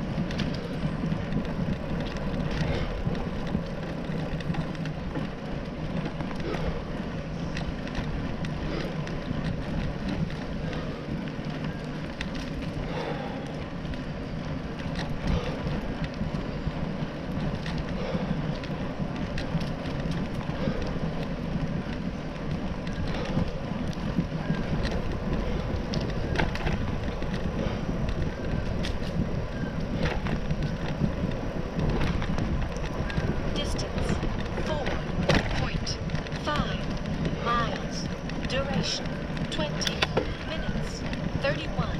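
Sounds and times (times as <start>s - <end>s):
bicycle tyres on pavement: 0.0s - 41.9s
bike clicking and rattling: 0.0s - 41.9s
wind noise: 0.0s - 41.9s.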